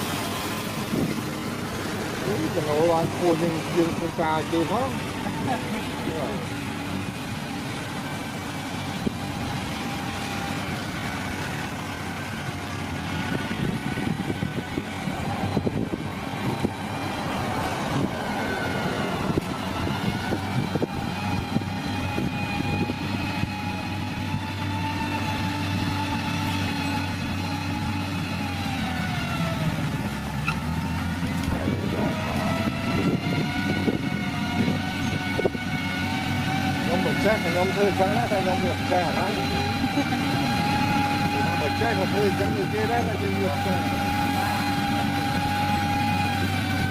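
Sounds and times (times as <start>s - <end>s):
heavy vehicle engine running: 0.0s - 46.9s.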